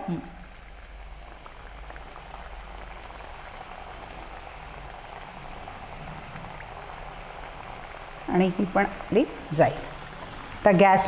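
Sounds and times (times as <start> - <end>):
dough deep-frying in hot oil: 0.0 - 11.0.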